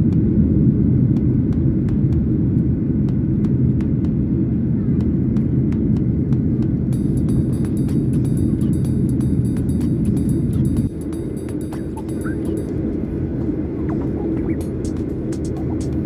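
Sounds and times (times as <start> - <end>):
jet engine cabin roar: 0.0 - 16.0.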